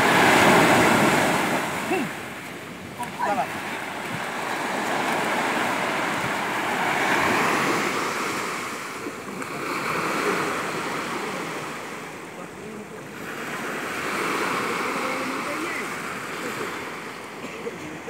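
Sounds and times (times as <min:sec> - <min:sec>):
small waves washing on beach: 0:00.0 - 0:18.0.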